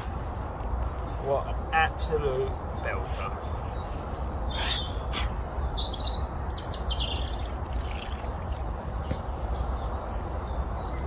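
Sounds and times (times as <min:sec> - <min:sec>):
birds chirping and singing: 0:00.0 - 0:11.0.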